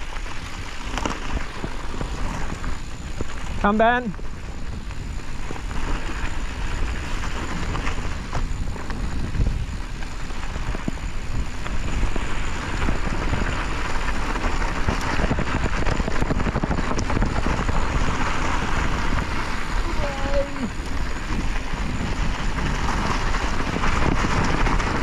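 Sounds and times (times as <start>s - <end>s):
bike clicks and rattles: 0.0s - 25.0s
bike tyres rumbling on gravel: 0.0s - 25.0s.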